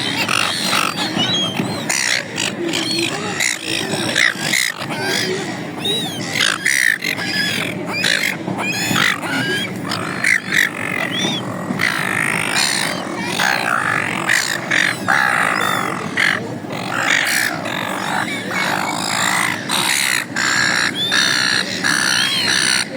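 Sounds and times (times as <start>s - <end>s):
gulls squawking: 0.0s - 22.9s.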